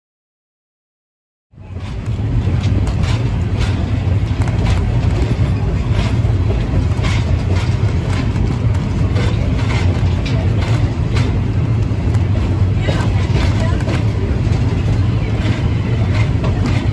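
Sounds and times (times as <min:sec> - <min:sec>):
train rumbling: 0:01.5 - 0:16.9
train clanks and knocks: 0:01.6 - 0:16.9.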